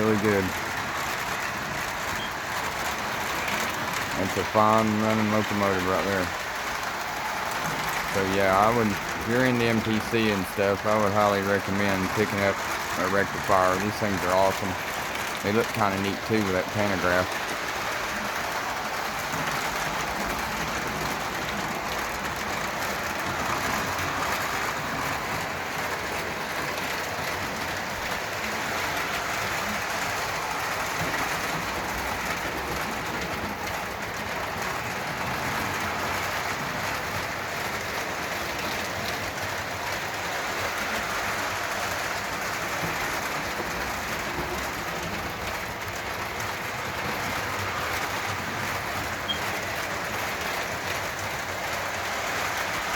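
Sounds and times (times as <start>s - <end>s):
model train running on track: 0.0s - 52.9s.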